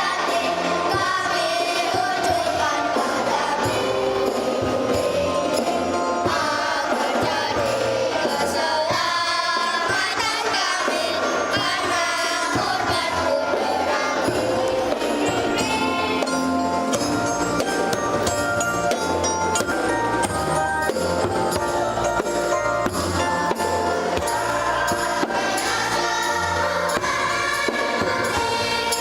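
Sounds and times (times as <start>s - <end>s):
choir singing a hymn: 0.0s - 29.0s
instrumental accompaniment: 0.0s - 29.0s
light percussion: 0.0s - 29.0s.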